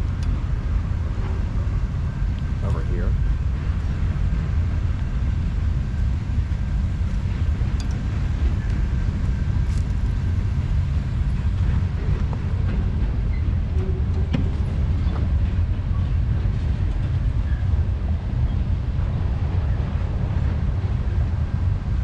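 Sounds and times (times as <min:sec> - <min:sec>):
train passing rumble: 0:00.0 - 0:22.0.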